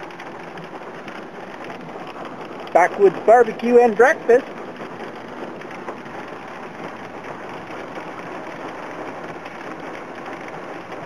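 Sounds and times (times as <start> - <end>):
heavy rain on a vehicle: 0.0 - 11.0
vehicle running noise: 0.0 - 11.0.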